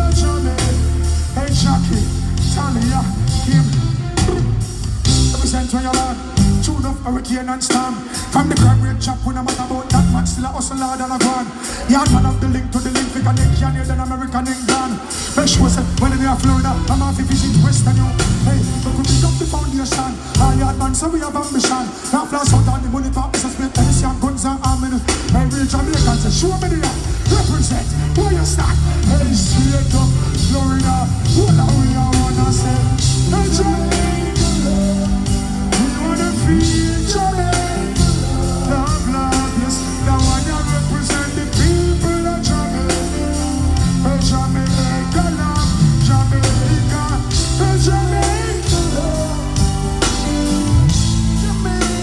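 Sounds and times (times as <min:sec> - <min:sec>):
live band music: 0:00.0 - 0:52.0
person singing: 0:00.0 - 0:52.0.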